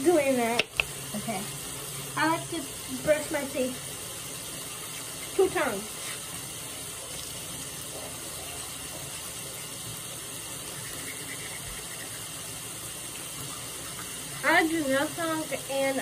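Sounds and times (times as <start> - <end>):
sink tap running: 0.0 - 16.0.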